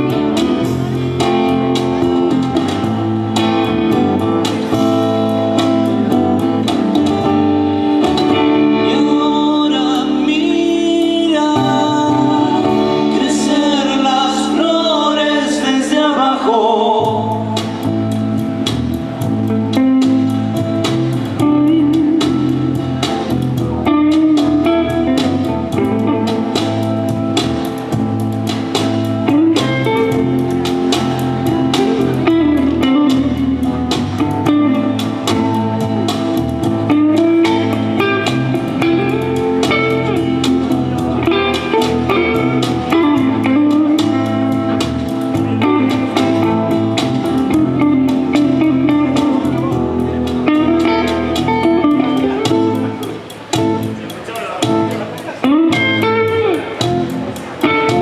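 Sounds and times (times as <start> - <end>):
drums keeping a steady beat: 0.0 - 16.1, 16.8 - 58.0
rock band playing live: 0.0 - 58.0.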